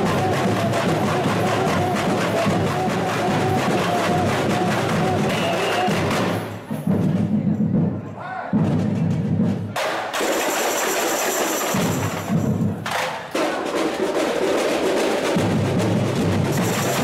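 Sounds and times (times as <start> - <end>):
small frame drums: 0.0 - 17.0
snare drums: 0.0 - 17.0.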